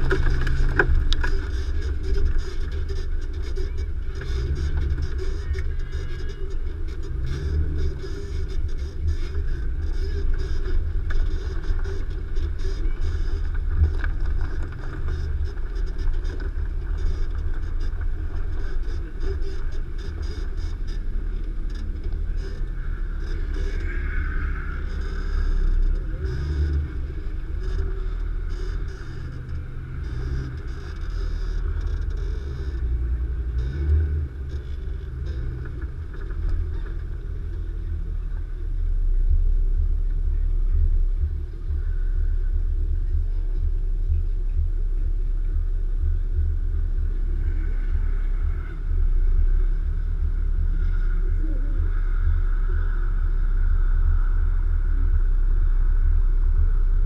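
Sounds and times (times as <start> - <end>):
engine running under load: 0.0 - 57.0.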